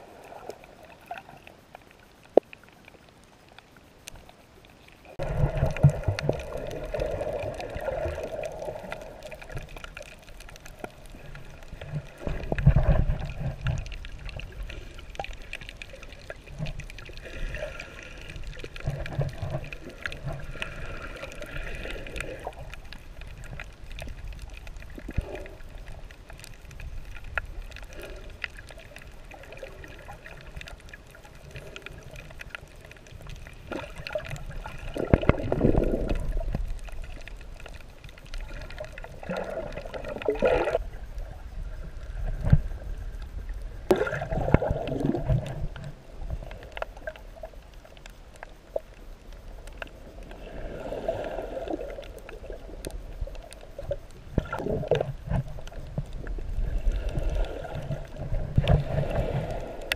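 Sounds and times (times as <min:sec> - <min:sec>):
low rumble of moving seawater: 0:00.0 - 0:59.9
water sloshing and gurgling: 0:00.0 - 0:59.9.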